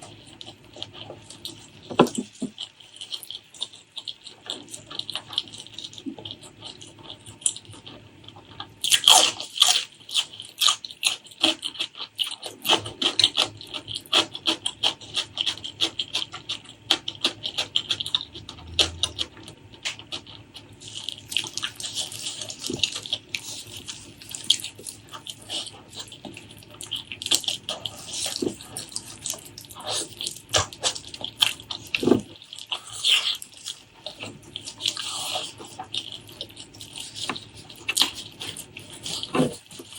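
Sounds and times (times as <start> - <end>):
wet chewing and lip-smacking: 0.0 - 39.9.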